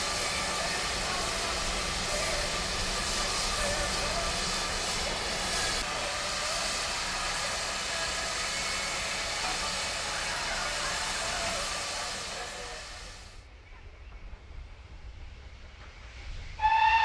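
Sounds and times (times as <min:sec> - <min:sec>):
steam locomotives hissing: 0:00.0 - 0:13.4, 0:14.5 - 0:17.0.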